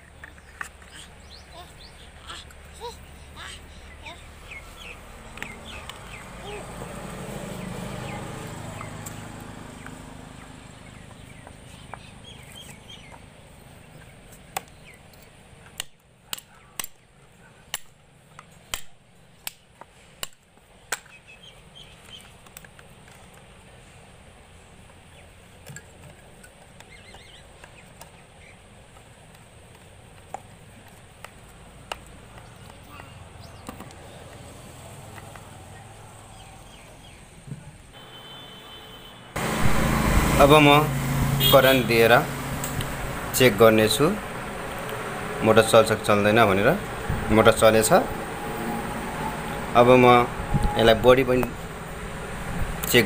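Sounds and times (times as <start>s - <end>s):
birds chirping: 0.0s - 17.6s, 21.0s - 22.6s, 23.5s - 53.0s.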